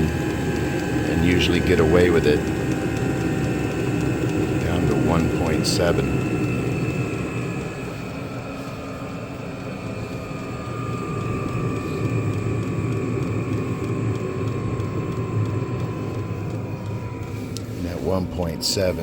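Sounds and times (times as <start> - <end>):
heater blower whine: 0.0 - 19.0
low combustion rumble: 0.0 - 19.0.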